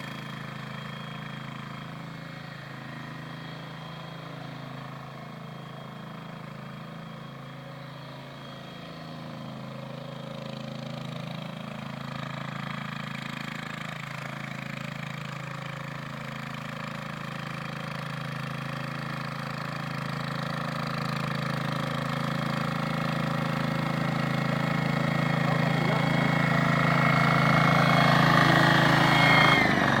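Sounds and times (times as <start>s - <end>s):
tiller engine running: 0.0s - 30.0s.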